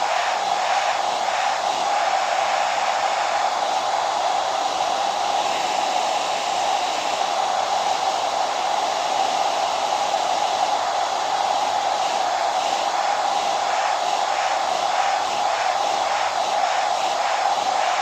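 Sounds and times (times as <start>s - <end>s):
hair dryer blowing air: 0.0s - 18.0s.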